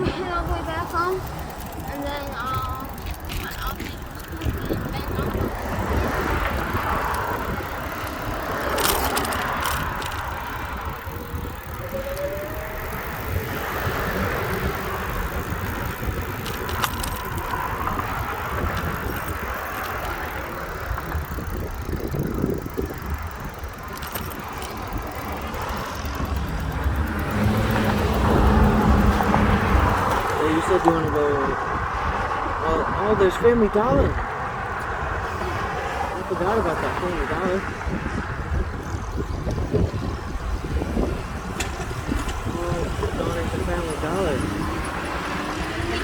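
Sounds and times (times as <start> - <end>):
bicycle clicks and rattles: 0.0 - 46.0
road noise: 0.0 - 46.0
wind rushing: 0.0 - 46.0.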